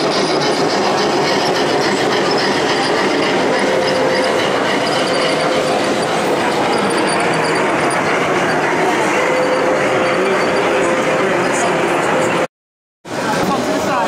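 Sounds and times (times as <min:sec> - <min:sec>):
crowd hubbub: 0:00.0 - 0:12.5, 0:13.1 - 0:14.0
model steam locomotive running: 0:00.0 - 0:12.5.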